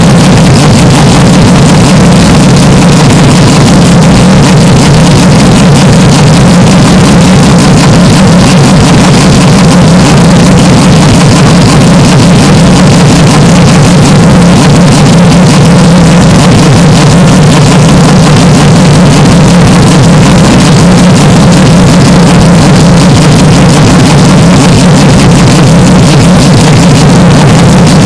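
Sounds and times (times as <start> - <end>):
distorted racing car engine drone: 0.0 - 28.0.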